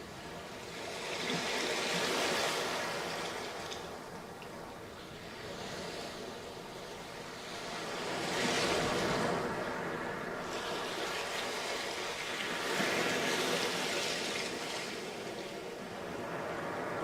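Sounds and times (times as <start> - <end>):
sea waves breaking on beach: 0.0 - 17.0.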